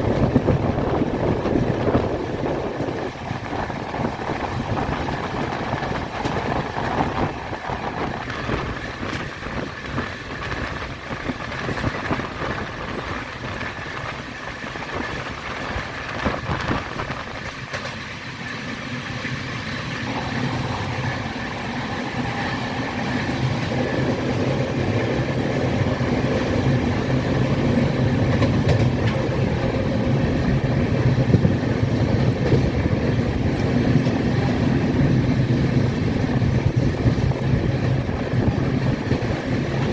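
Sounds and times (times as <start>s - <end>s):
train rumbling along track: 0.0s - 39.9s.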